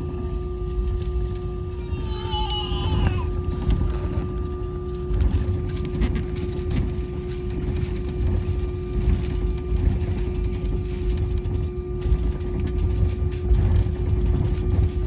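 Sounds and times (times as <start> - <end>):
jet engines from inside cabin: 0.0 - 15.0.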